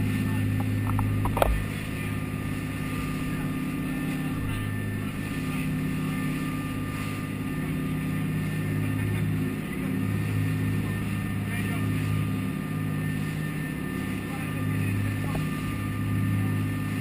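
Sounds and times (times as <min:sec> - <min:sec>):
boat engines droning: 0:00.0 - 0:17.0
faint steady whine: 0:00.0 - 0:17.0.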